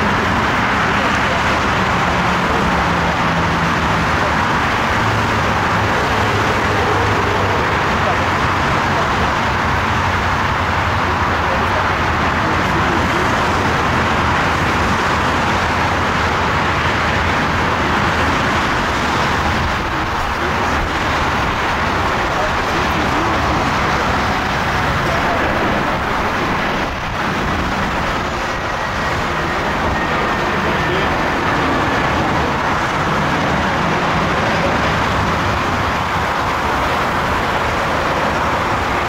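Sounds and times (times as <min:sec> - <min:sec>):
jet airliner engine rushing: 0:00.0 - 0:39.0.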